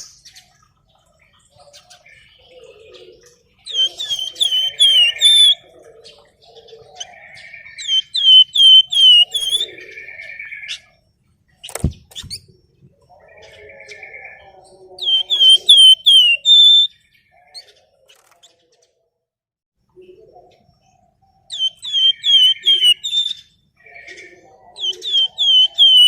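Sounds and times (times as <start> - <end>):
songbird chirping and trilling: 0.0 - 19.1, 19.9 - 26.0.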